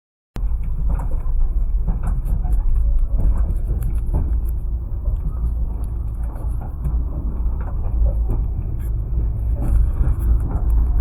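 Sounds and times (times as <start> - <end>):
train rumbling: 0.4 - 11.0.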